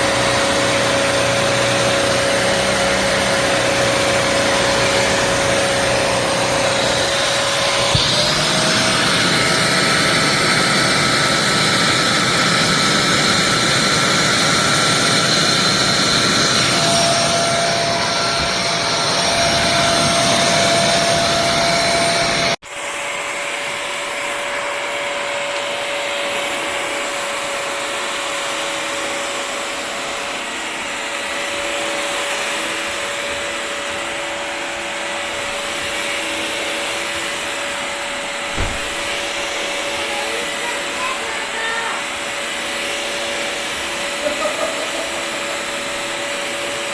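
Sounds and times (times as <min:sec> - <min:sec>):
vacuum cleaner motor whine: 0:00.0 - 0:46.9.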